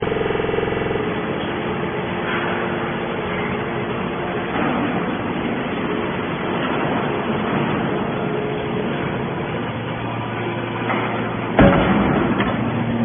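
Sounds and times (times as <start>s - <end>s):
baler mechanical drone: 0.0s - 13.0s
even hum of stacked tones: 0.0s - 13.0s.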